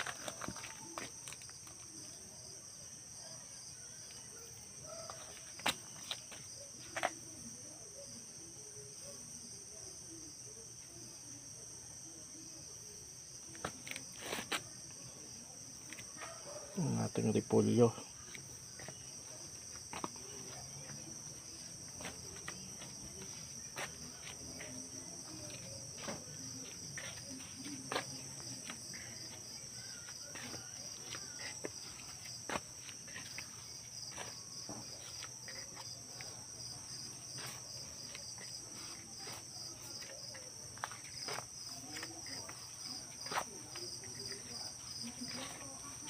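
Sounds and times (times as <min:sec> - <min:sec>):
crickets chirping: 0:00.0 - 0:46.0.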